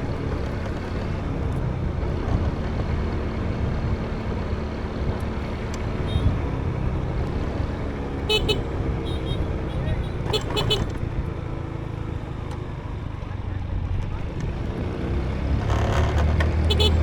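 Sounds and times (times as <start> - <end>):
motorbike engine drone: 0.0 - 17.0
road and wind rumble: 0.0 - 17.0.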